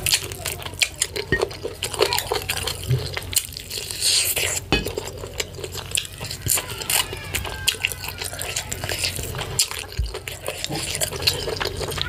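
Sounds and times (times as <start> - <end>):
wet chewing and mouth smacks: 0.0 - 12.0.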